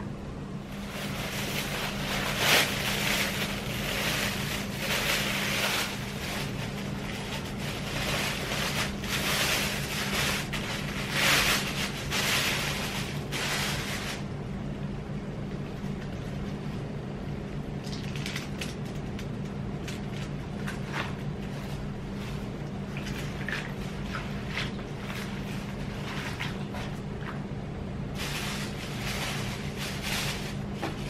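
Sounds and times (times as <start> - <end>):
low steady hum: 0.0 - 31.0
plastic bag rustling: 0.6 - 14.3, 17.8 - 27.5, 28.1 - 31.0.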